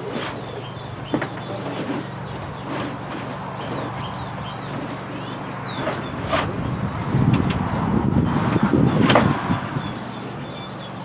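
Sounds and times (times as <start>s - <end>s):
steady low hum: 0.0s - 10.9s
small birds chirping: 0.0s - 11.0s.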